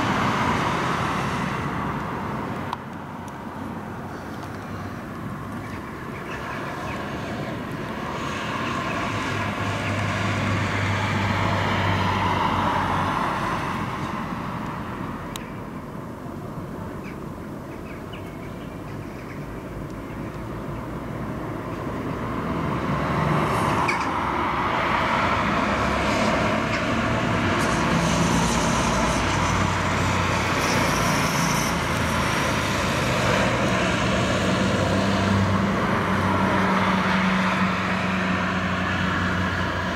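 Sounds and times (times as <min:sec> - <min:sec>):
distant jet engines roaring: 0:00.0 - 0:39.9.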